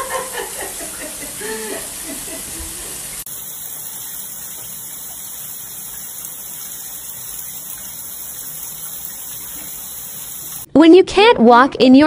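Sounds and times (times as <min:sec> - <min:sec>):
shower spraying into bathtub: 0:00.0 - 0:10.7.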